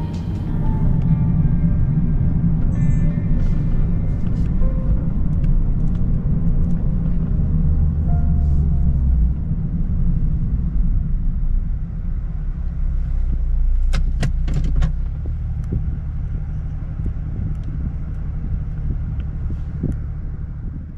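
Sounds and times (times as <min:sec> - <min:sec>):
car engine droning: 0:00.0 - 0:20.9.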